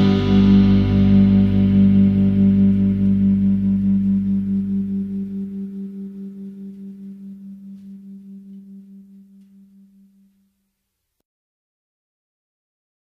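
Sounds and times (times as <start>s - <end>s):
low wavering music note: 0.0s - 10.7s.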